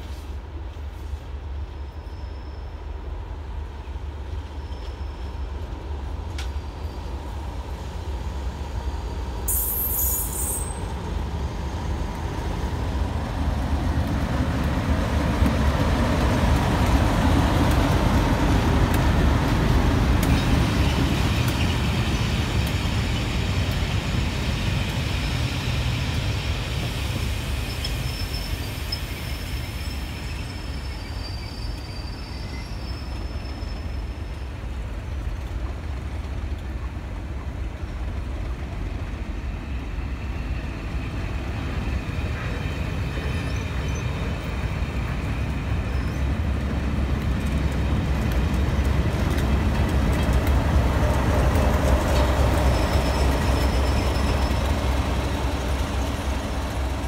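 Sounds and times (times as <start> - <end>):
diesel locomotive engine passing: 0.0 - 57.0
wheel and rail noise: 0.0 - 57.0.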